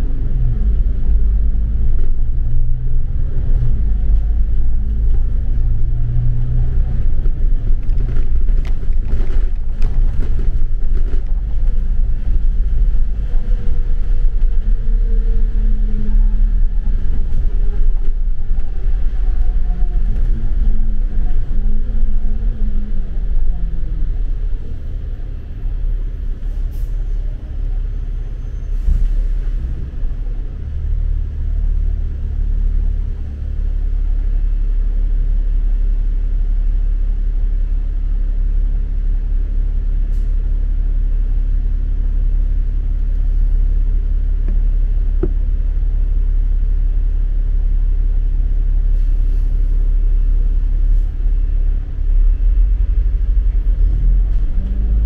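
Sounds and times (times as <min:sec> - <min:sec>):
low rumble of traffic: 0:00.0 - 0:55.0.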